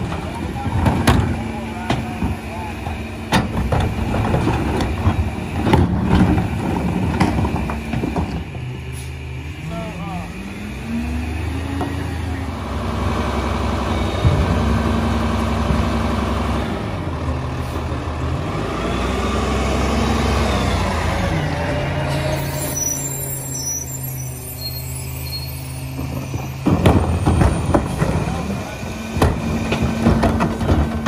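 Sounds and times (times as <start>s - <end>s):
garbage truck engine revving: 0.0s - 31.0s.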